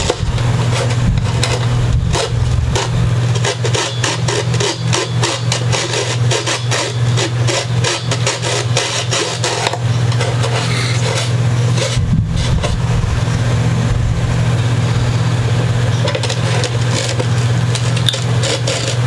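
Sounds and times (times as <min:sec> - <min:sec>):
hand file rasping on wood: 0:00.0 - 0:12.8, 0:16.4 - 0:19.0
steady low hum: 0:00.0 - 0:19.0.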